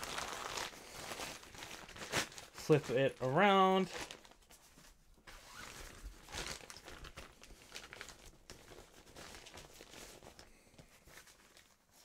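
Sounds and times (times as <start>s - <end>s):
fabric rustling and crinkling: 0.0s - 12.0s.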